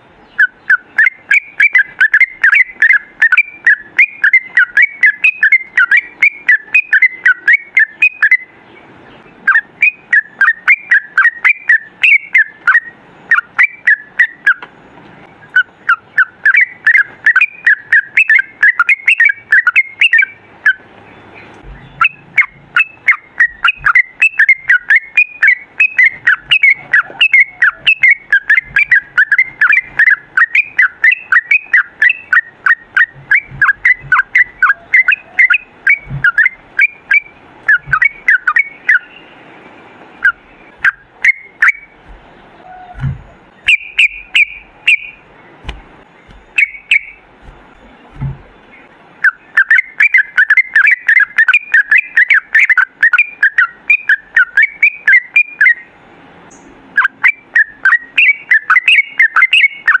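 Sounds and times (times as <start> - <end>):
bulbul chattering song: 0.0 - 60.0.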